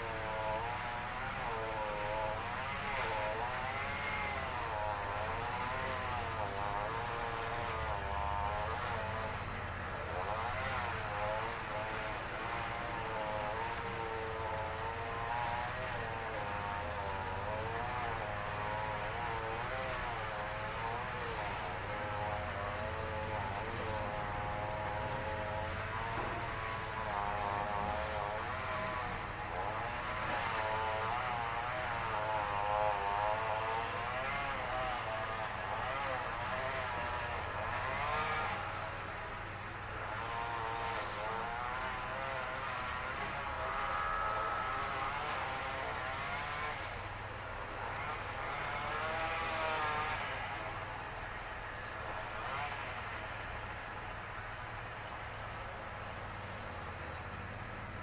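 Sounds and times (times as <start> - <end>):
string trimmer engine revving: 0.0 - 51.0, 52.0 - 53.8.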